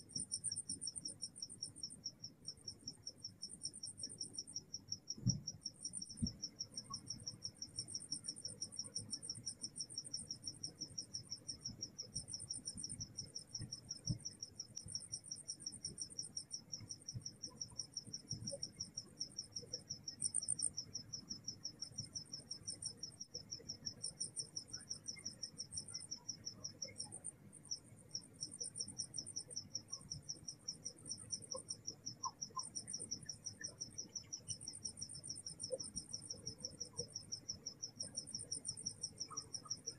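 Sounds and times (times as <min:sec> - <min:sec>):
crickets trilling: 0:00.0 - 0:39.9
higher intermittent insect trill: 0:00.0 - 0:39.9.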